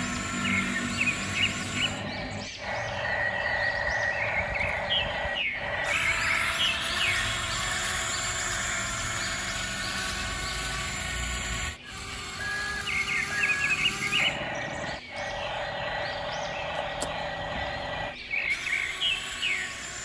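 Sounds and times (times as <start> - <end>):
birds chirping: 0.0 - 20.0
steady background ambience: 0.0 - 20.0.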